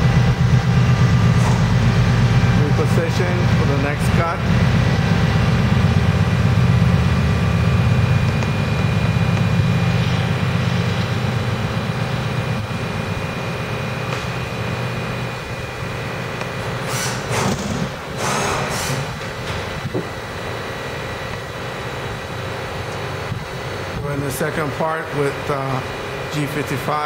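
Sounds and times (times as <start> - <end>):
milling machine drone and whine: 0.0 - 27.0.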